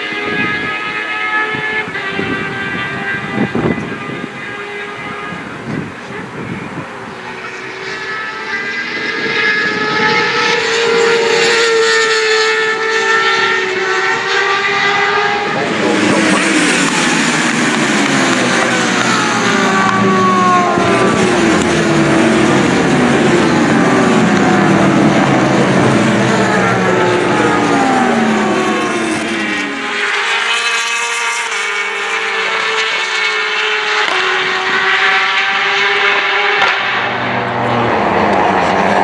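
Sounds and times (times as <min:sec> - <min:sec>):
racing motorcycles passing: 0:00.0 - 0:39.0
steady motorcycle engine note: 0:00.0 - 0:39.0.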